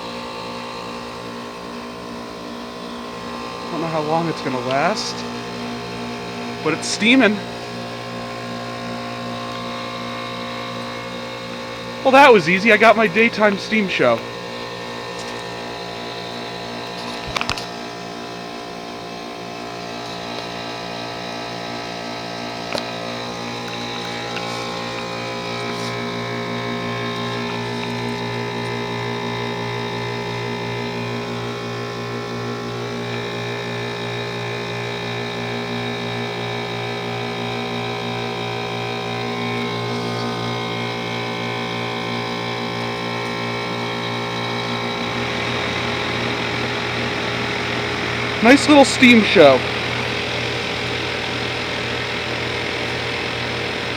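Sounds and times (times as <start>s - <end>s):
heat pump compressor humming: 0.0s - 53.9s.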